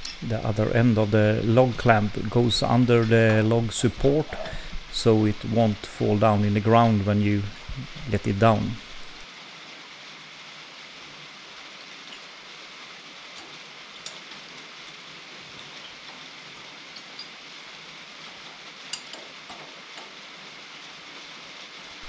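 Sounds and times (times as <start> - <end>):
steady hissing noise: 0.0 - 22.0.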